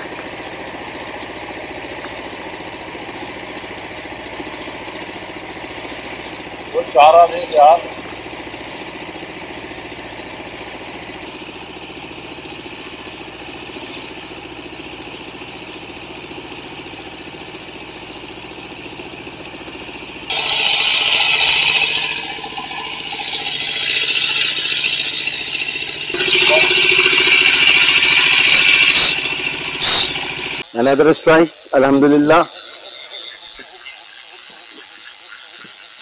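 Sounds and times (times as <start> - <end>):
boat engine running: 0.0 - 30.7.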